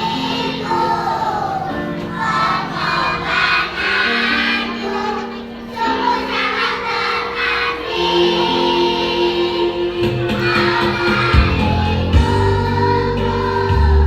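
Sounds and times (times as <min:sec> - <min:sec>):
children's choir singing: 0:00.0 - 0:14.0
musical accompaniment: 0:00.0 - 0:14.0.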